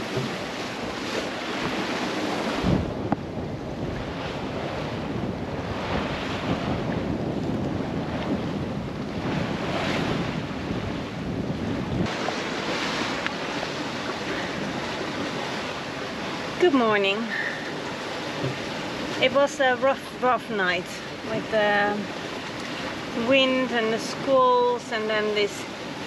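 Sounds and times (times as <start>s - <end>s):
waves rushing past hull: 0.0s - 26.0s
wind buffeting microphone: 0.0s - 26.0s.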